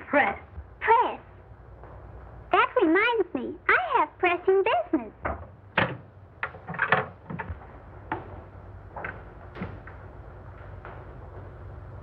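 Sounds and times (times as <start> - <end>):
film soundtrack hiss: 0.0 - 12.0.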